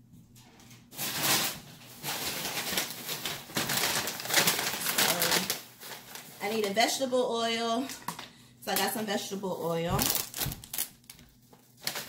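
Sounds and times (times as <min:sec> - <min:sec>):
grocery bags rustling: 0:00.7 - 0:07.9, 0:08.6 - 0:12.0.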